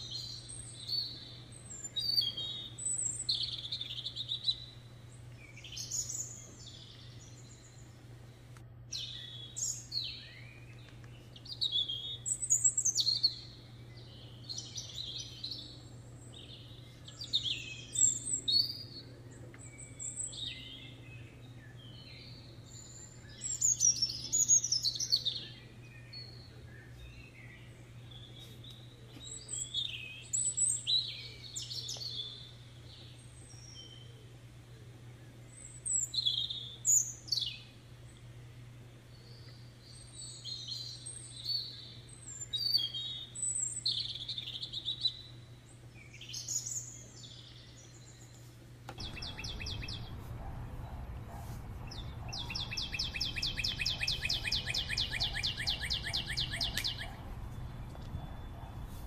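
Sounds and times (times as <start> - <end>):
birds chirping and singing: 0.0 - 59.0
steady low hum: 0.0 - 59.0.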